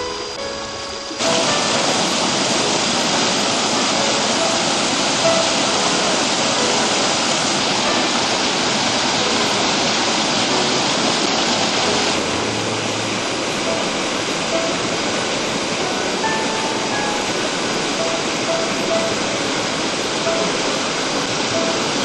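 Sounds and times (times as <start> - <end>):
falling water rushing: 0.0 - 22.0.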